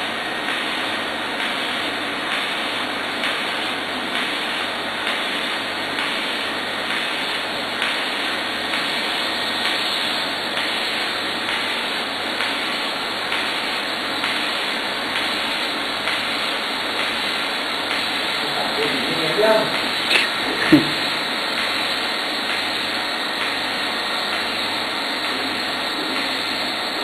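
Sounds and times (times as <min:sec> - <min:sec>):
welding arc steady noise: 0:00.0 - 0:27.0.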